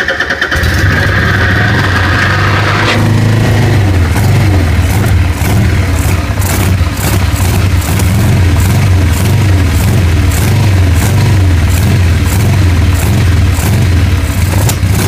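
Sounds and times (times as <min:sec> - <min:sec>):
motorcycle engine misfiring: 0:00.0 - 0:15.0.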